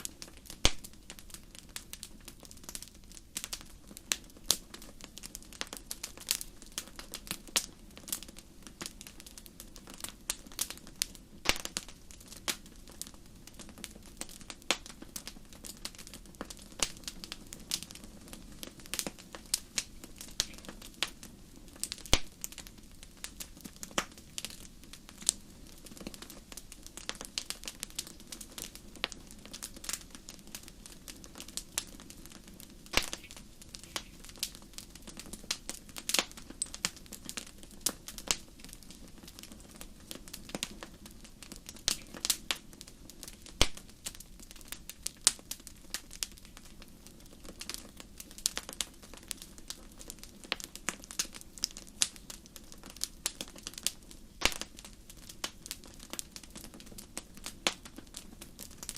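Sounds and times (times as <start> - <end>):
fire crackling and popping: 0.0 - 58.9
low rush of flame: 0.0 - 58.9.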